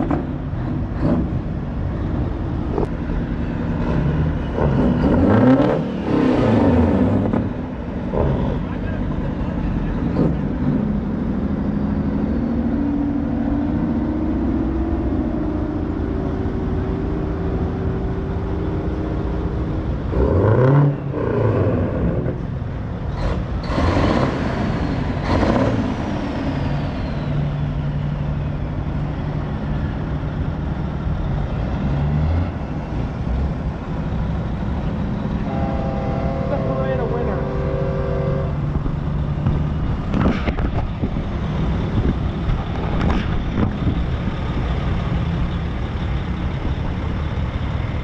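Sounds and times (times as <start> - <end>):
diesel truck engines running: 0.0 - 48.0.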